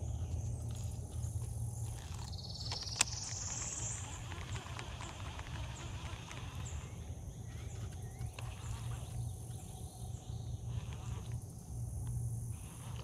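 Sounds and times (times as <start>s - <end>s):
faint gliding calls: 0.0s - 13.0s
steady low hum: 0.0s - 13.0s.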